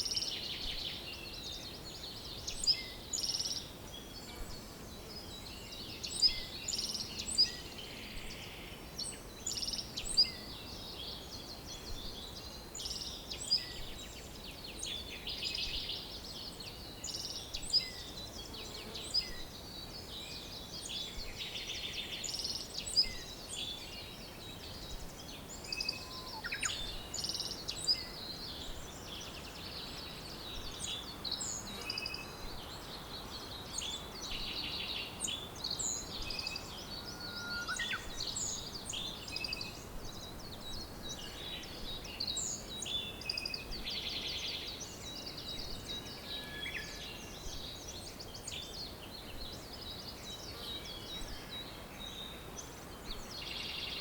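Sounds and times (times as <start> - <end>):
faint steady hiss: 0.0 - 54.0
songbirds chirping and trilling: 0.0 - 54.0.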